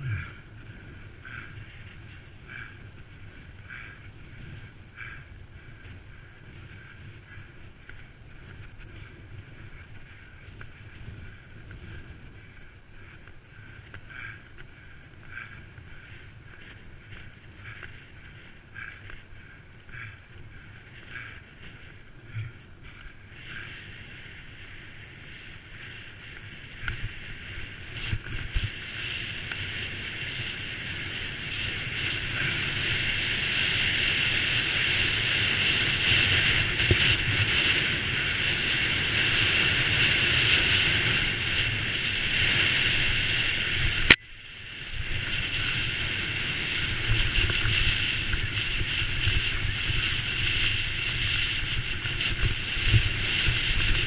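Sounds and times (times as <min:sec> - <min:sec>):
bike tyres hissing: 0:00.0 - 0:54.0.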